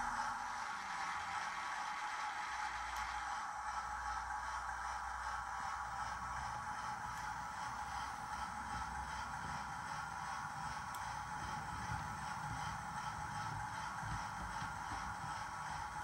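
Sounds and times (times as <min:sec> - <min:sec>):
model train hissing on track: 0:00.1 - 0:16.0.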